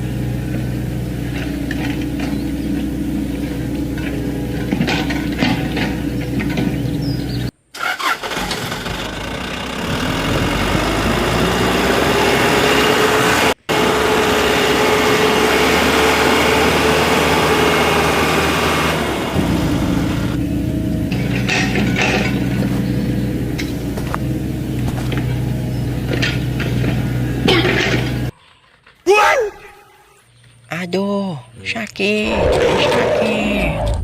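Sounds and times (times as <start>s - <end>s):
vehicle engine revving: 0.0s - 28.3s.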